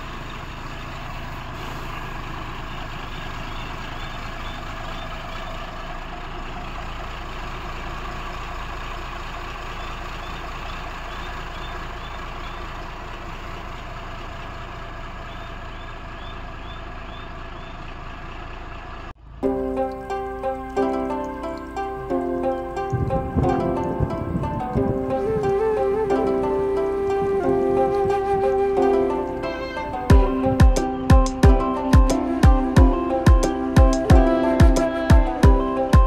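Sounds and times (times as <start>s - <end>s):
diesel truck engine idling: 0.0s - 36.0s.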